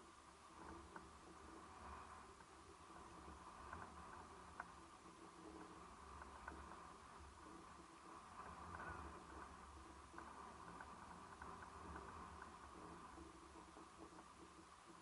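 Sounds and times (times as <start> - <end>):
calm sea washing on shore: 0.0 - 15.0.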